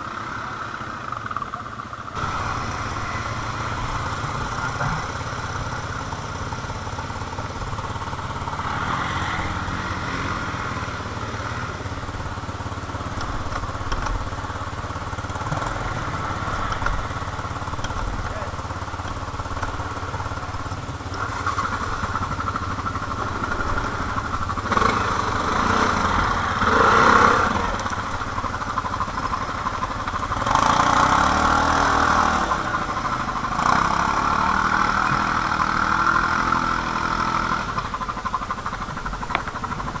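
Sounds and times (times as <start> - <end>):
quad bike engine revving: 0.0 - 40.0.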